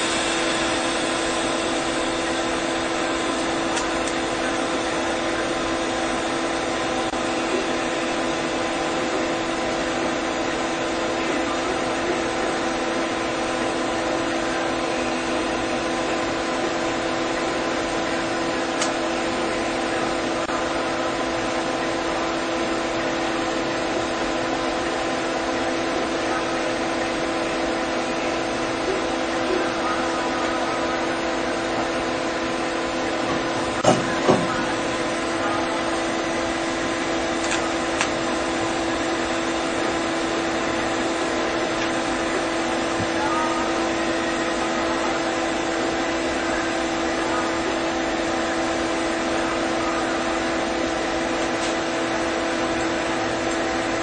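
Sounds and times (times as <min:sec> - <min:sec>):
mechanical hum with hiss: 0:00.0 - 0:54.0.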